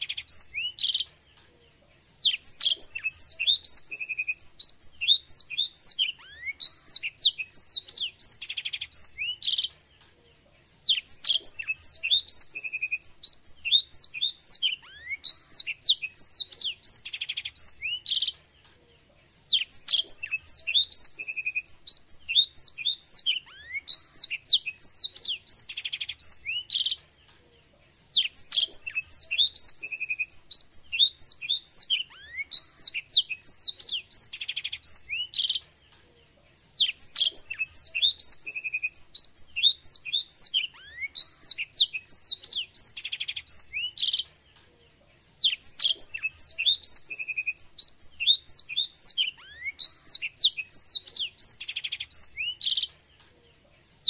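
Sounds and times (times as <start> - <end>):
canary singing: 0.0 - 1.1, 2.0 - 9.8, 10.6 - 18.4, 19.3 - 27.1, 27.9 - 44.4, 45.2 - 53.2.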